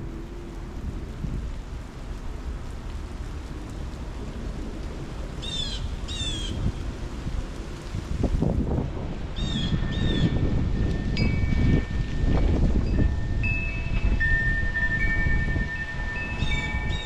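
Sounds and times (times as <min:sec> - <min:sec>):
strong wind buffeting microphone: 0:00.0 - 0:02.7, 0:03.4 - 0:17.0.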